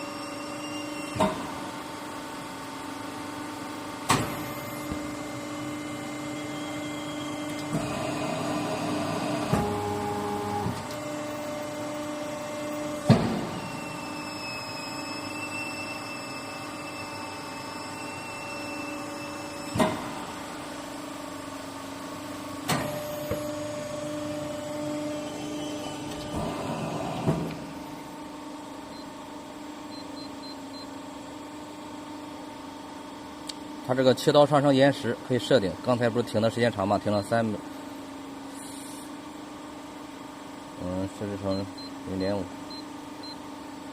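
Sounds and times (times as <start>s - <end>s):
hydraulic power unit humming: 0.0s - 43.9s.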